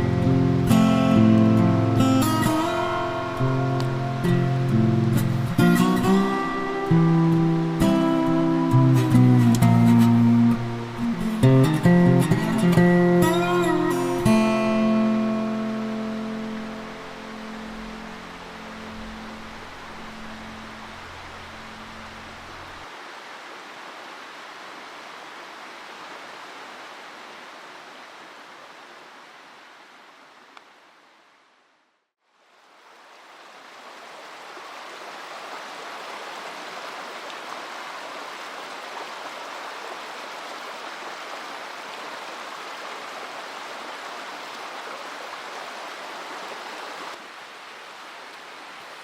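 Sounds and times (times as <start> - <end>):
stream rushing over rocks: 0.0 - 31.5, 32.2 - 49.0.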